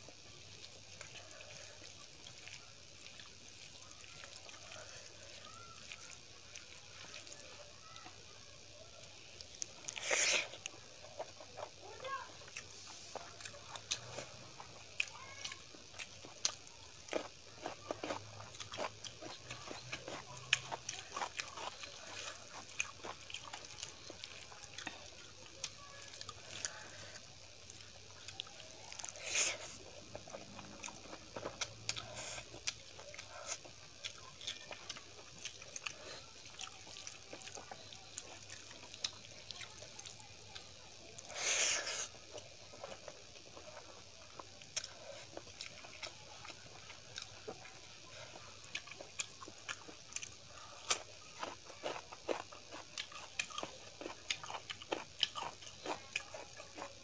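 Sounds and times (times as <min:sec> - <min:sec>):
wet chewing and lip-smacking: 0:00.1 - 0:07.6, 0:09.4 - 0:57.0.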